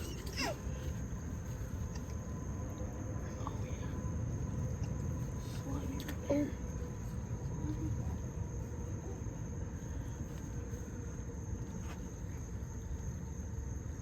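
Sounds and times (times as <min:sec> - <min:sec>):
insects singing high thin tone: 0:00.0 - 0:14.0
low continuous rumble: 0:00.0 - 0:14.0.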